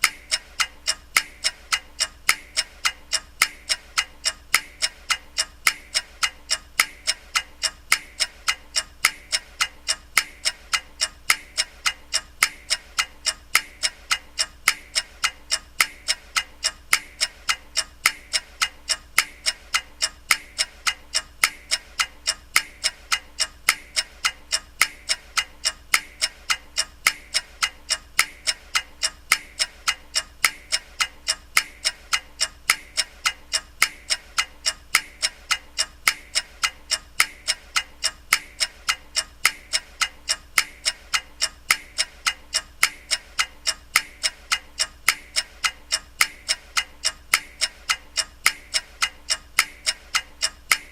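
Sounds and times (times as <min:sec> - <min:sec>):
clock ticking: 0:00.0 - 0:50.9.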